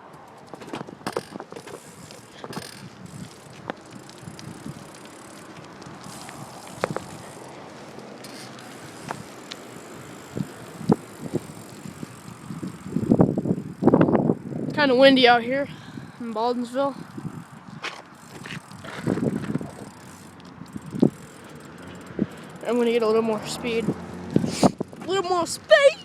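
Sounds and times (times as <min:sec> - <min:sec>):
bike clicks and knocks: 0:00.0 - 0:14.1, 0:17.3 - 0:25.4
bike rolling: 0:00.0 - 0:26.0.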